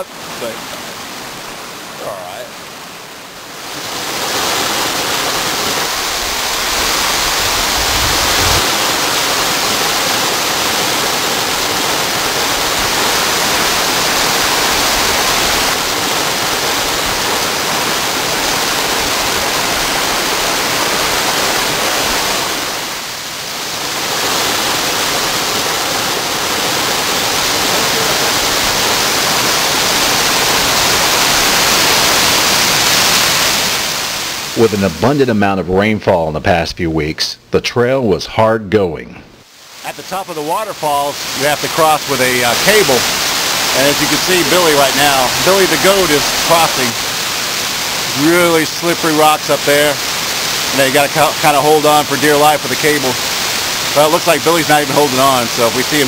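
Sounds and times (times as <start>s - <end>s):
waterfall rushing: 0.0s - 35.4s, 39.4s - 56.0s.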